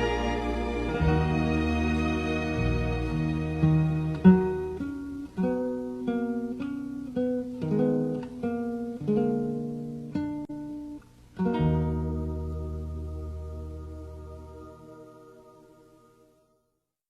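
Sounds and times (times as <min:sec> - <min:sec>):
acoustic guitar melody: 0:00.0 - 0:16.7.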